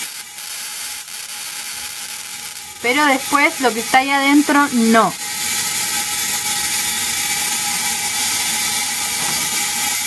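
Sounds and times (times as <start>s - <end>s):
spark gap electrical crackle: 0.0s - 10.0s.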